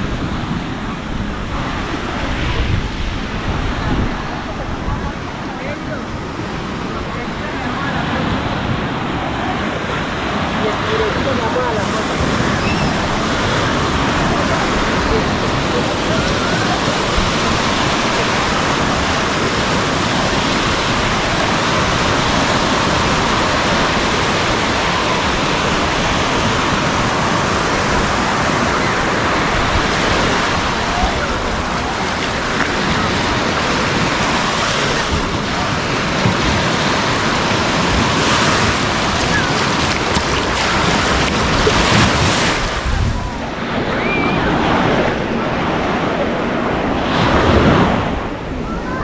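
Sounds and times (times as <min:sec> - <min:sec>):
waves washing onto beach: 0:00.0 - 0:49.0
wind on microphone: 0:00.0 - 0:49.0.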